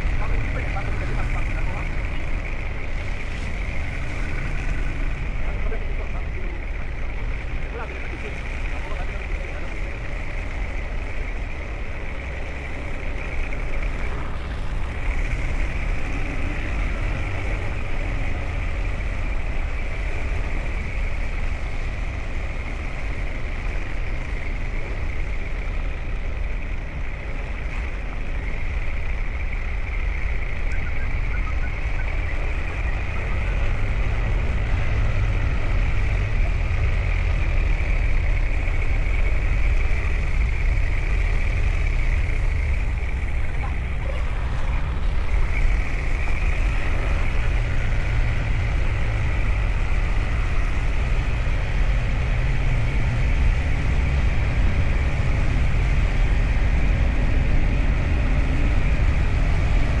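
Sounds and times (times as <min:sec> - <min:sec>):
motorcycle engine rumble: 0:00.0 - 1:00.0.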